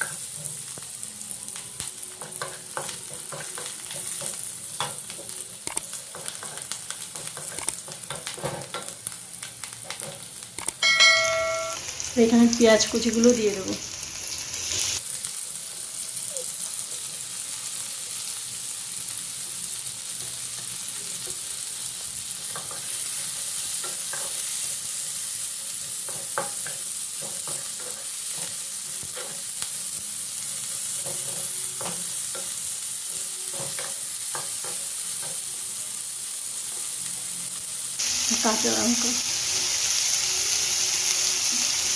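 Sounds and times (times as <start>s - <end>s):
onions sizzling in oil: 0.0s - 41.9s.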